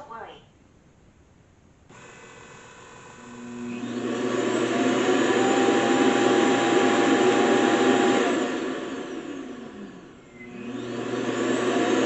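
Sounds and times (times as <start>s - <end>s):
robot vacuum station suction: 1.9s - 12.0s.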